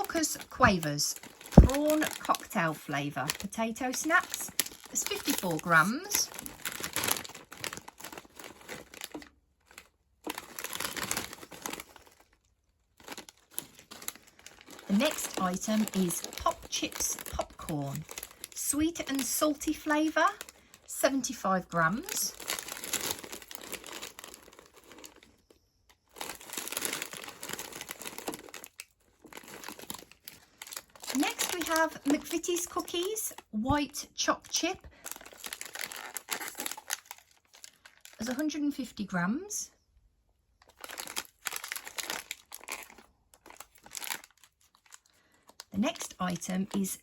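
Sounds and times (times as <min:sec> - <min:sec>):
plastic snack packets crinkling: 0:00.0 - 0:39.0, 0:40.6 - 0:47.0.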